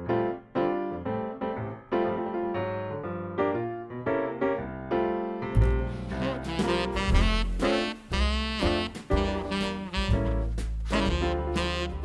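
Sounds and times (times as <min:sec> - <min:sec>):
piano chords ringing: 0:00.0 - 0:12.0.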